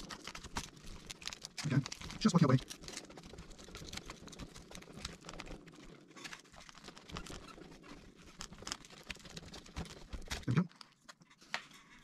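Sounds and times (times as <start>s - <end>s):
plastic card scraping and crackling: 0.0s - 12.0s.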